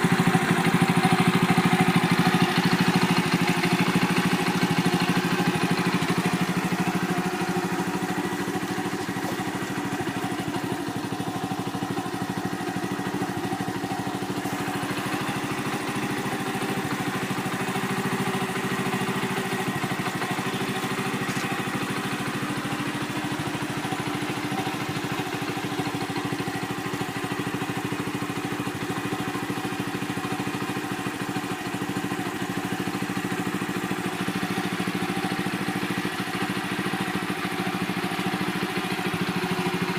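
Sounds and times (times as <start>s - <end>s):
small motorcycle engine idling: 0.0s - 39.9s.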